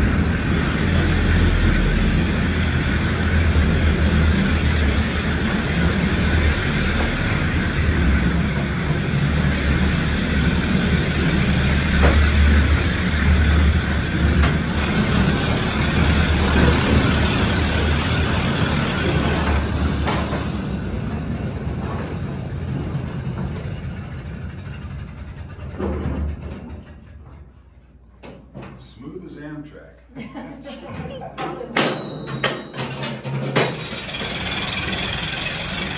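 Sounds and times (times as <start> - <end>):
mine train rumbling on rails: 0.0 - 27.9, 33.7 - 35.9.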